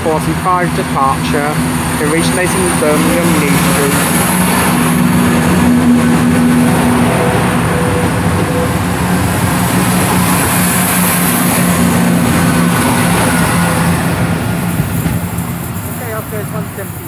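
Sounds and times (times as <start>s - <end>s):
diesel train engines droning: 0.0s - 17.0s.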